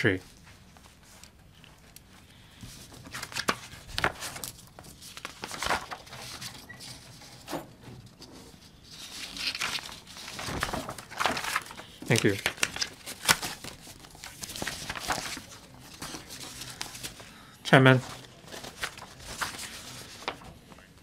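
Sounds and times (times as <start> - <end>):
paper rustling: 0.3 - 21.0.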